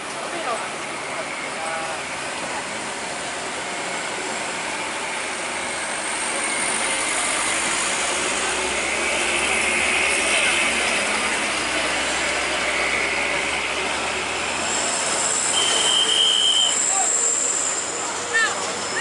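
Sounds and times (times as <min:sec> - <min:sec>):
road noise: 0:00.0 - 0:19.0
truck engine rumble: 0:00.0 - 0:19.0.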